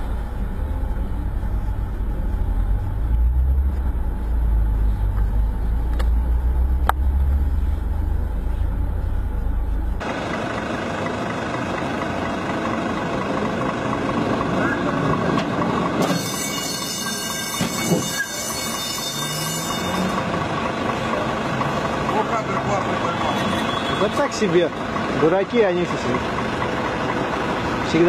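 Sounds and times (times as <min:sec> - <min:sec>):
car engine idling: 0:00.0 - 0:16.0, 0:19.6 - 0:28.0
street traffic noise: 0:00.0 - 0:28.0.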